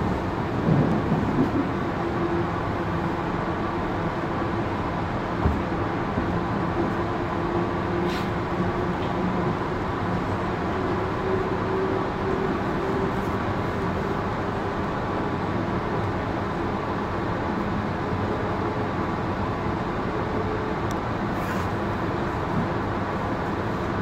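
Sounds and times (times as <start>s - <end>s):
train rolling rumble: 0.0s - 24.0s.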